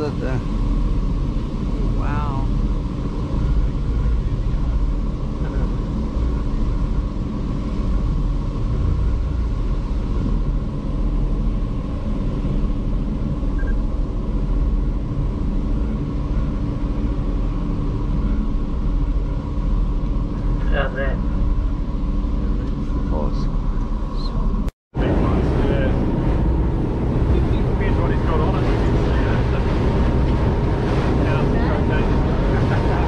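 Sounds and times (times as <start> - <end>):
boat engines rumbling: 0.0 - 33.0.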